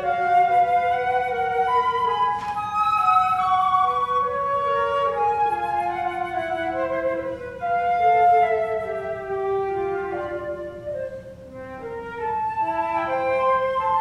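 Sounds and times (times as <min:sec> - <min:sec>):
flute duet: 0:00.0 - 0:14.0.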